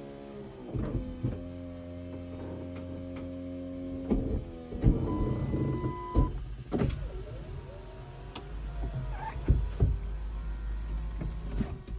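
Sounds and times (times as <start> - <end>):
electric motors whining: 0.0 - 11.9.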